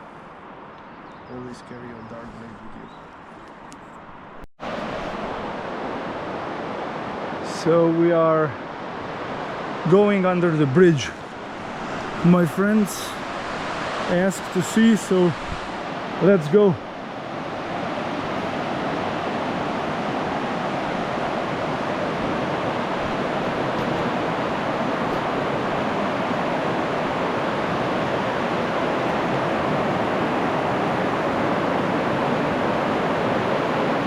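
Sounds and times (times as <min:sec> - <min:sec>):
rushing river water: 0:04.6 - 0:34.0.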